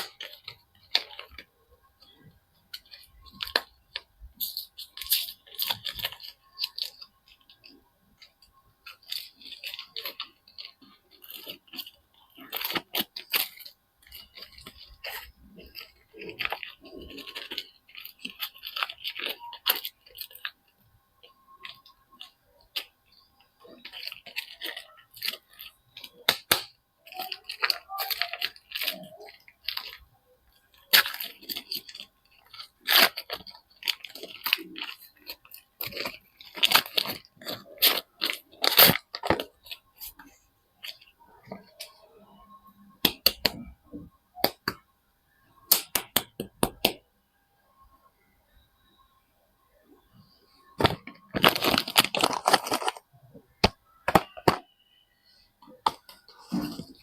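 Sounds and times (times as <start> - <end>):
wrappers crinkling and tearing: 0.0 - 42.1, 50.8 - 54.6.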